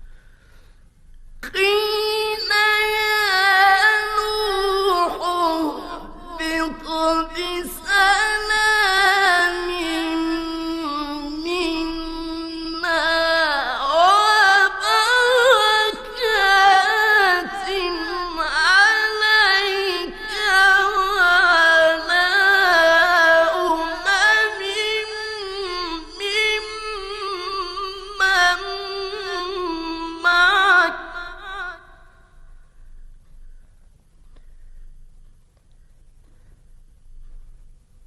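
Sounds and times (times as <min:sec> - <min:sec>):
man reciting melodically: 0:01.4 - 0:32.5.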